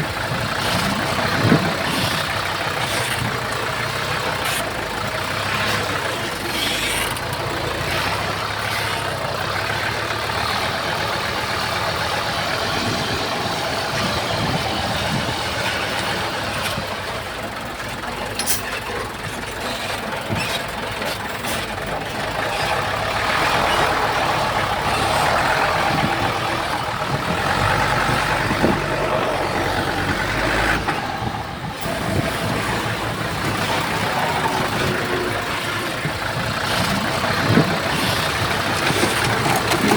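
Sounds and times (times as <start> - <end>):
diesel earthmoving machines running: 0.0 - 39.9.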